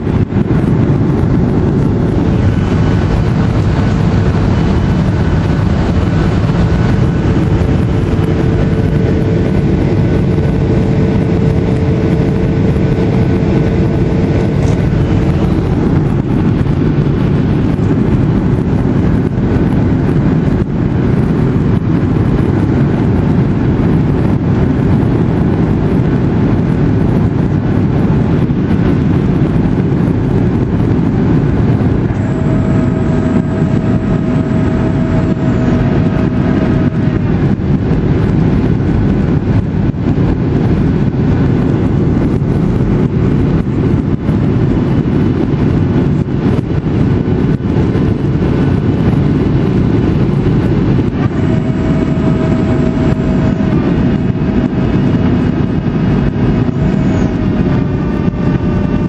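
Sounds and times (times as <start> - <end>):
airplane cabin roar: 0.0 - 59.0
faint hum: 0.0 - 59.0
high steady whine: 0.0 - 59.0.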